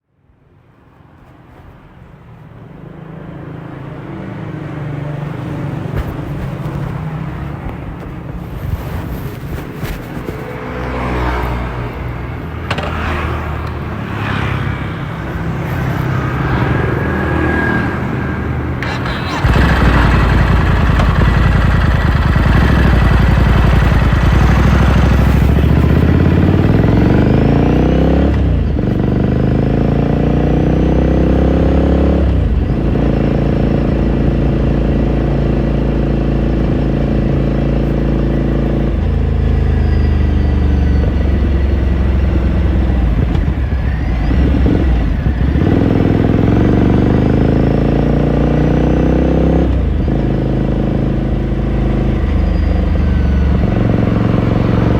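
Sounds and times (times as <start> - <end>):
motorcycle engine and exhaust: 2.8 - 54.9.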